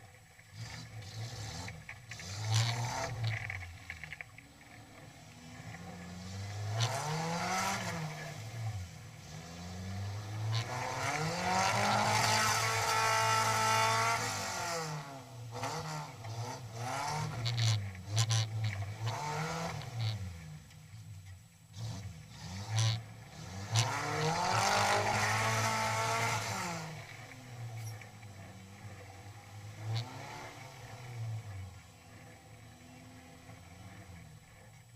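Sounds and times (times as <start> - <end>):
engine revving: 0.0 - 21.0, 21.6 - 34.9.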